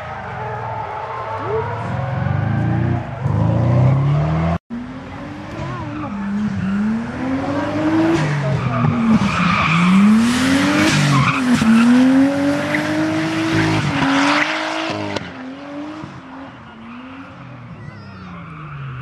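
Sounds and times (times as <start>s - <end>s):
car engine revving: 1.4s - 17.7s.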